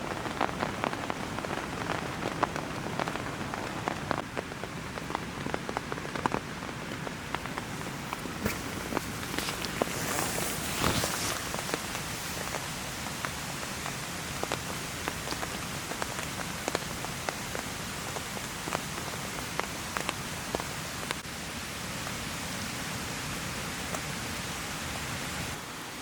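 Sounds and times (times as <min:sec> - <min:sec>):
heavy rain: 0:00.0 - 0:26.0
rustle: 0:00.0 - 0:26.0.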